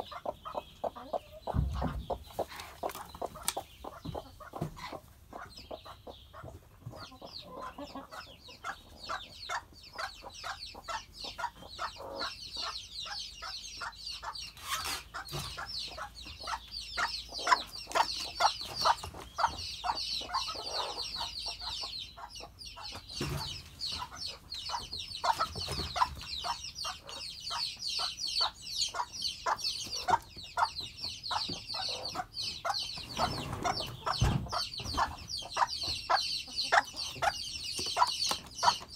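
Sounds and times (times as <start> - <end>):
chicks peeping shrilly: 0.0 - 38.9
hens clucking: 0.0 - 38.9.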